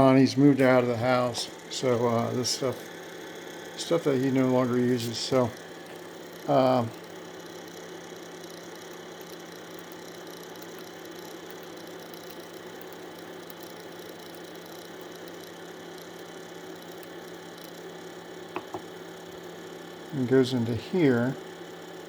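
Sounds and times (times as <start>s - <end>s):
cooling fan whirring: 0.0s - 22.0s
faint constant hum: 0.0s - 22.0s.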